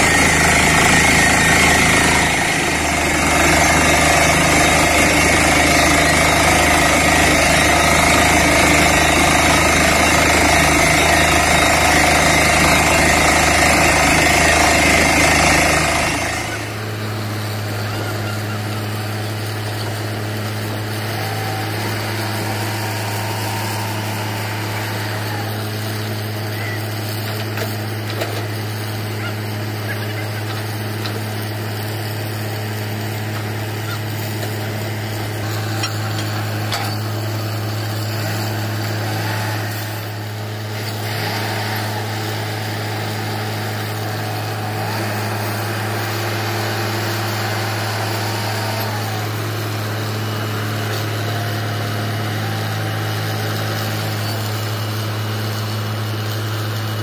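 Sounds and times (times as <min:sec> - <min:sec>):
drilling rig engine droning: 0:00.0 - 0:57.0.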